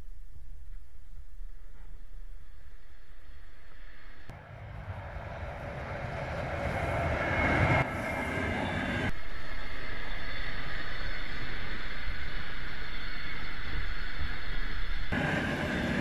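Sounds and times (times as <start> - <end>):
train wheels rumbling on rails: 0.7 - 16.0
train passing at speed: 2.5 - 16.0.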